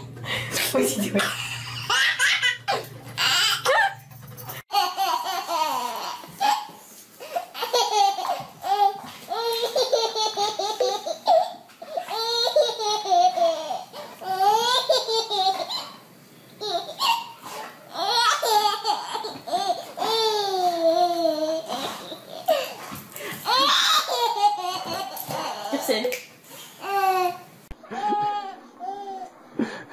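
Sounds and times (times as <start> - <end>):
baby laughing: 1.2 - 4.0, 4.7 - 16.0, 16.6 - 25.9, 26.8 - 29.8.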